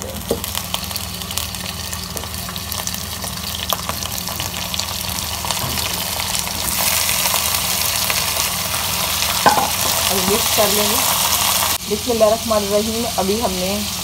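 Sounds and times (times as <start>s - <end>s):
meat sizzling in hot oil: 0.0s - 14.0s.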